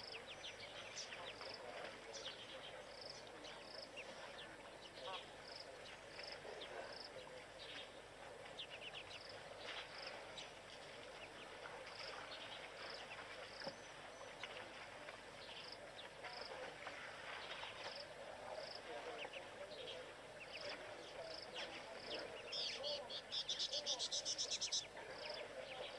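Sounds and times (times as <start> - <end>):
bird calls: 0.0 - 25.9
steady low hiss: 0.0 - 25.9.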